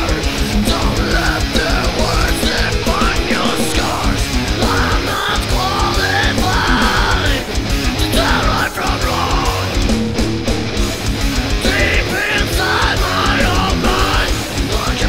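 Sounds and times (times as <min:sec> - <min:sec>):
fast dense drumming: 0:00.0 - 0:15.0
heavy metal guitars: 0:00.0 - 0:15.0
rapid bass-drum beats: 0:00.0 - 0:15.0.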